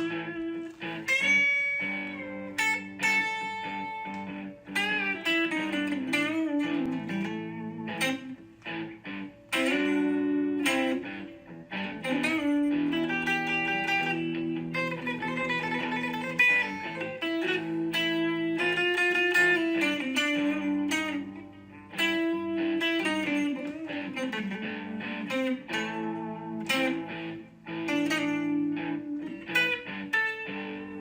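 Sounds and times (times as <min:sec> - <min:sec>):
plucked guitar: 0:00.0 - 0:31.0.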